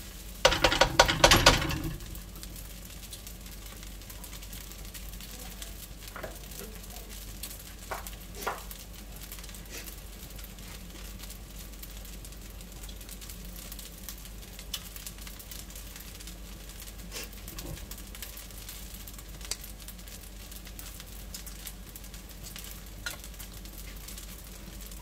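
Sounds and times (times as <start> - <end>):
oil popping and crackling: 0.0 - 25.0
rice sizzling in a wok: 0.0 - 25.0.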